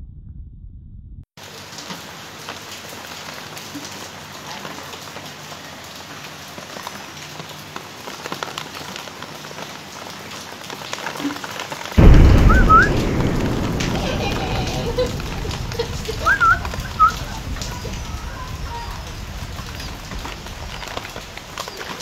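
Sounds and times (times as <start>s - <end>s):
rain falling steadily: 1.4s - 22.0s.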